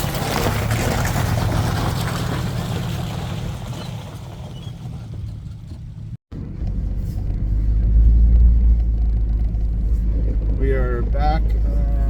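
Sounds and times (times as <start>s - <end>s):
pickup truck engine rumble: 0.0s - 12.0s
road noise: 0.0s - 12.0s.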